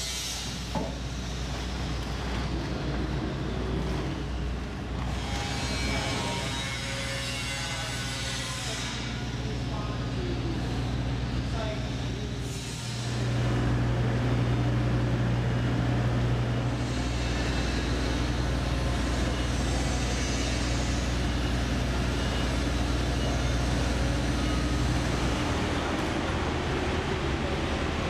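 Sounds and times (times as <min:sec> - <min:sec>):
construction machinery droning: 0:00.0 - 0:28.0.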